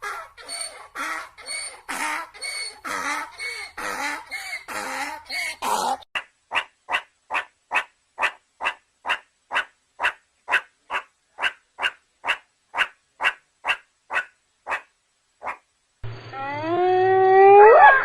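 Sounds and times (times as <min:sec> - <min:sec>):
animal barking calls: 0:00.0 - 0:15.7.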